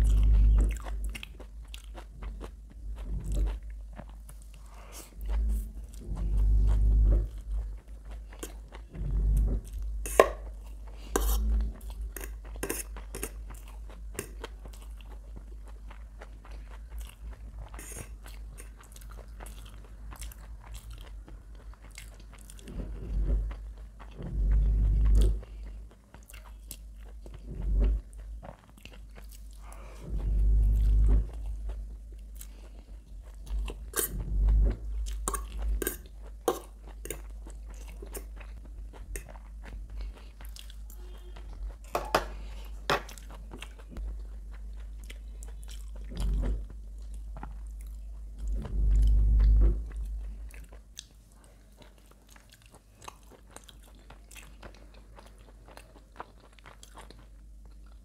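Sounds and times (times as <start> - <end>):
close-miked chewing: 0.0 - 58.0.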